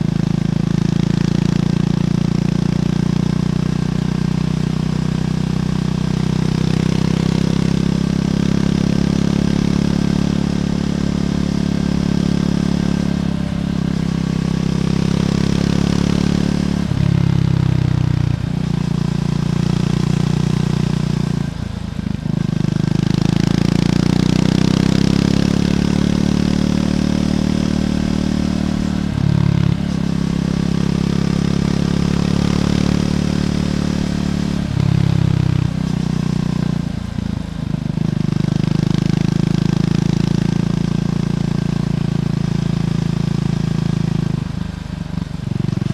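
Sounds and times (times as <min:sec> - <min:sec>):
motorcycle engine under way: 0:00.0 - 0:45.9.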